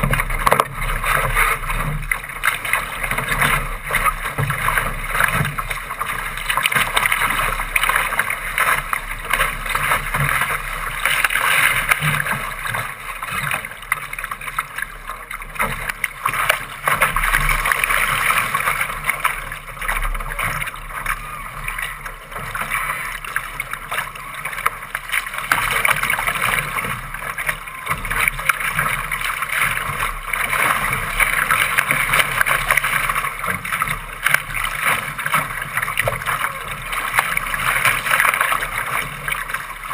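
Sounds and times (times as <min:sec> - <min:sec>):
water rushing along a boat hull: 0:00.0 - 0:39.9.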